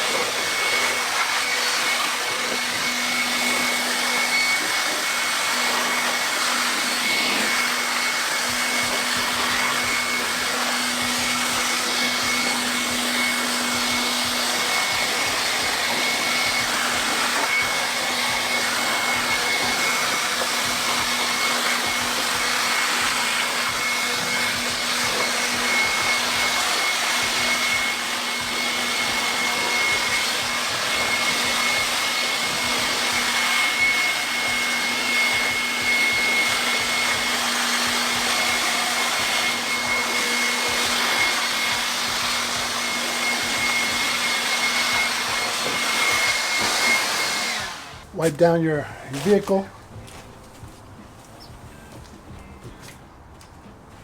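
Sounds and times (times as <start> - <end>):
air blower rushing and whining: 0.0 - 50.2.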